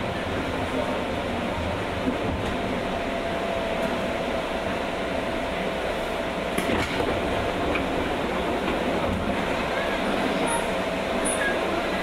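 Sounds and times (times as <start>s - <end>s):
train interior rumble and hiss: 0.0s - 12.0s.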